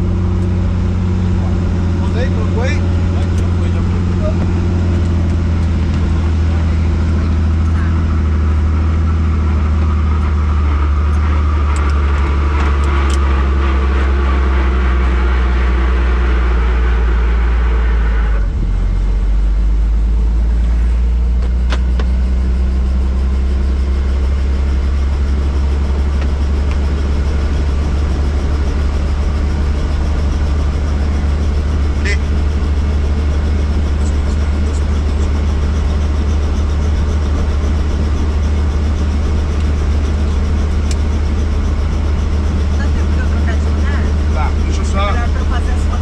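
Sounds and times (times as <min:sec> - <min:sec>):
helicopter engine and rotor: 0:00.0 - 0:17.1, 0:22.4 - 0:46.0.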